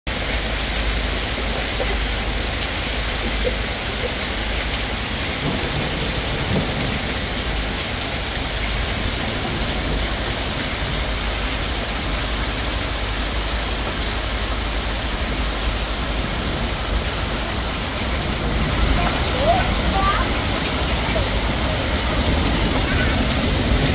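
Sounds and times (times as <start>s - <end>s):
heavy rain and hail: 0.1s - 23.9s
sharp hail hits: 0.3s - 23.9s.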